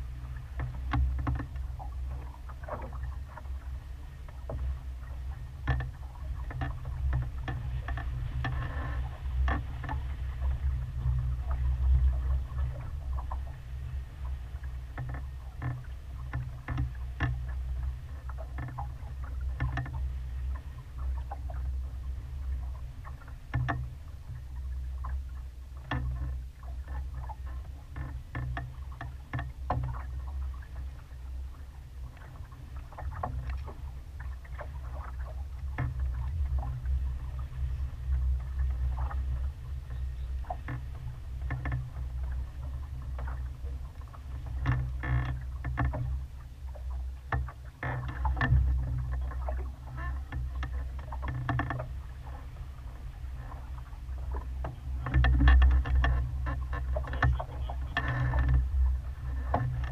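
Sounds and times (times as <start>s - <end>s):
water splashing against hull: 0.0s - 59.9s
wind rumble on microphone: 0.0s - 59.9s.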